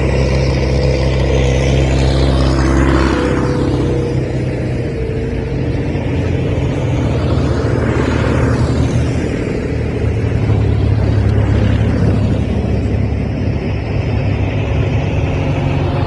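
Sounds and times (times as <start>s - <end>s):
passing machine noise: 0.0s - 16.0s
tractor engine running: 0.0s - 16.0s.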